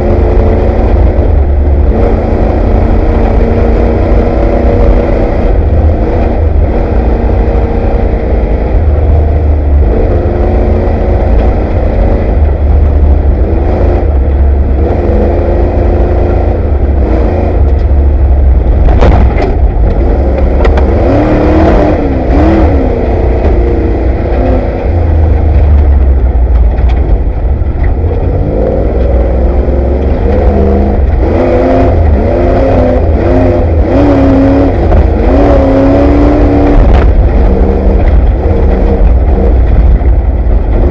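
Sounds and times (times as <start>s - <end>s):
knocks and clatter over bumps: 0.0s - 32.3s, 32.9s - 40.9s
truck engine revving: 0.0s - 40.9s.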